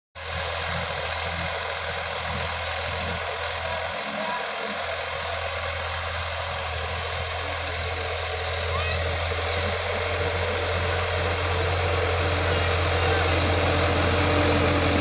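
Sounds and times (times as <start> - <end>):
tiller churning soil: 0.2 - 15.0
tractor diesel engine running: 0.2 - 15.0.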